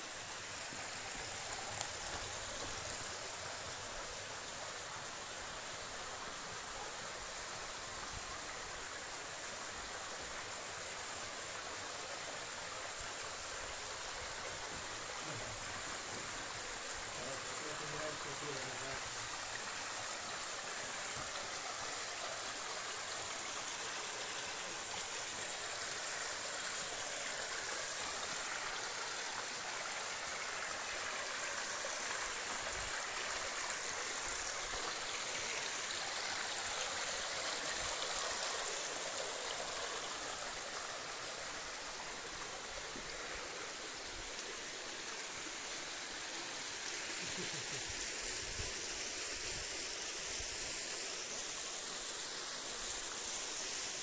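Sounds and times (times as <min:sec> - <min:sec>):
creek water rushing over rock: 0:00.0 - 0:54.0.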